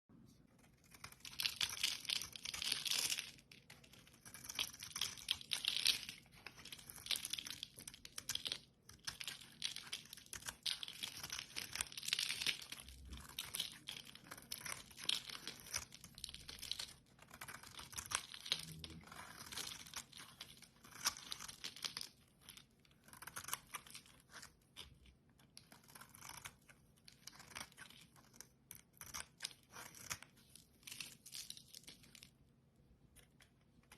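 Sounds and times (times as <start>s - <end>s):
blade cutting through soap: 0.6s - 31.2s.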